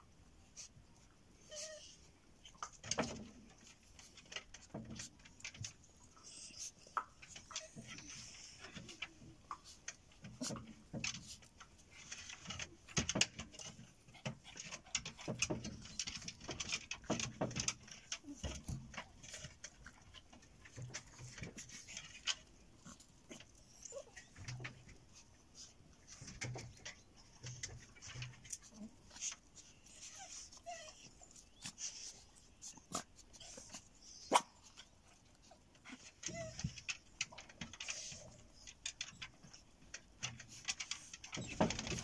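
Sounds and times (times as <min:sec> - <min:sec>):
puppies scuffling on dirt: 0:01.5 - 0:42.0.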